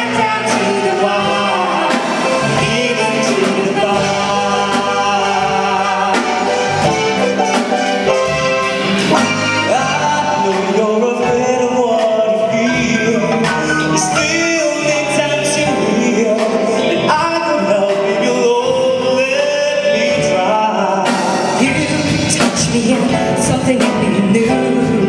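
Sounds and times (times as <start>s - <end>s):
live band playing: 0.0s - 25.0s.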